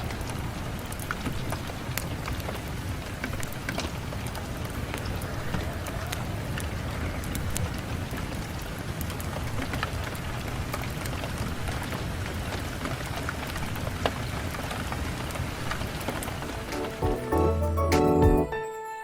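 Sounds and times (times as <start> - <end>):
rain against a window: 0.0 - 16.4.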